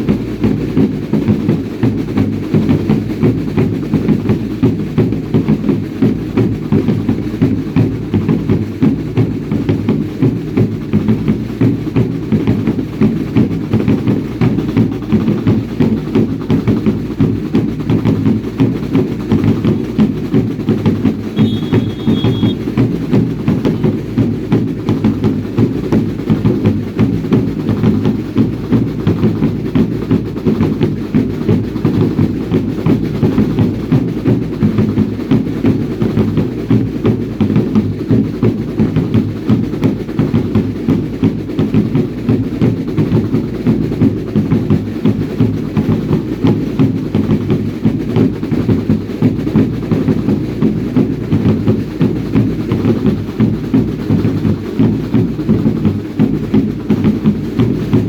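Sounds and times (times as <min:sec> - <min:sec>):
drums beaten in fast rhythm: 0:00.0 - 0:58.0.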